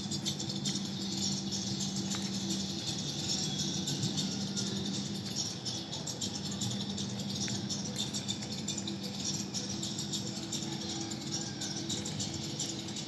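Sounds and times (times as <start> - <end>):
fast mechanical rattle: 0.0 - 13.0.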